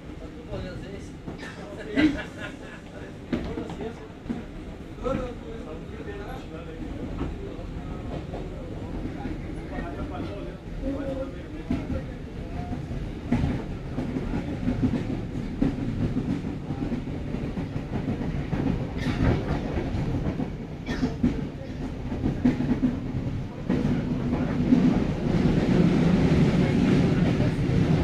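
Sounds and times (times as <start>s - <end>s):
train rumble inside passenger car: 0.0s - 28.0s.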